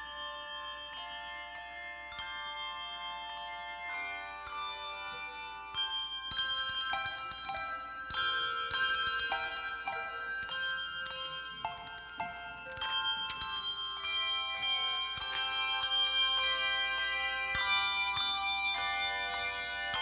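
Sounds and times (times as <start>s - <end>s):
handbell choir playing: 0.0s - 20.0s.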